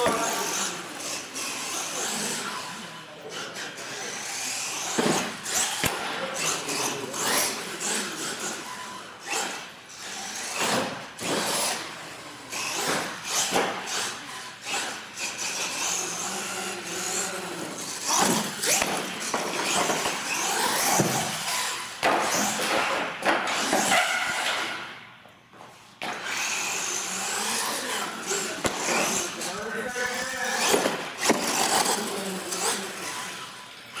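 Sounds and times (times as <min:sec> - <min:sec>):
toy truck motors whining: 0:00.0 - 0:25.0, 0:26.0 - 0:34.0.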